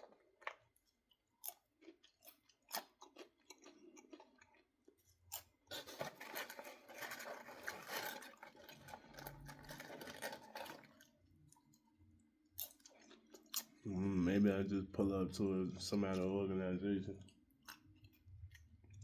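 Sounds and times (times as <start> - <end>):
popcorn crunching: 0.0 - 14.0, 17.2 - 19.0.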